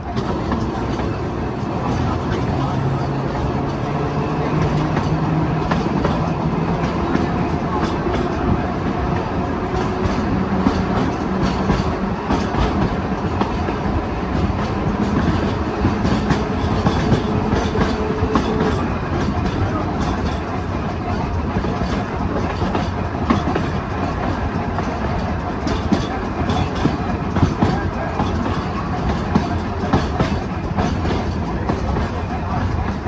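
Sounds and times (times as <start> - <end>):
streetcar wheels rumbling: 0.0 - 33.0
wheels clicking over rail joints: 0.0 - 33.0.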